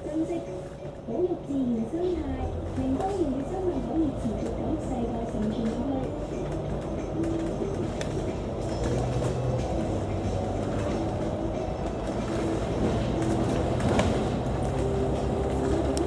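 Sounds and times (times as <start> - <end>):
diesel bus engine humming: 0.0 - 16.0
road rumble: 0.0 - 16.0.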